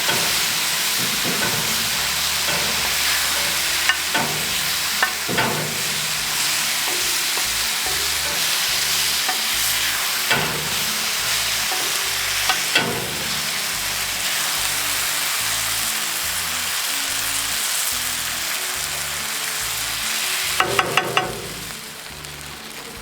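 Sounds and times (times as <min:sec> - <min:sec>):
food sizzling in hot fat: 0:00.0 - 0:23.0.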